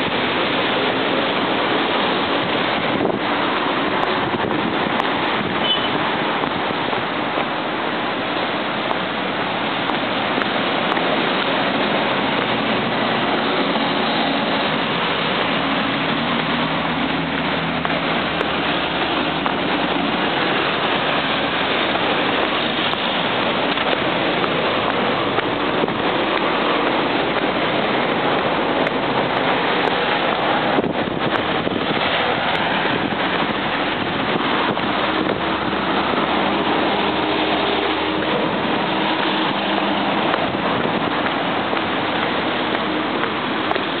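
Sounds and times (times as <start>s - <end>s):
heavy city traffic: 0.0s - 44.0s
wind buffeting microphone: 0.0s - 44.0s.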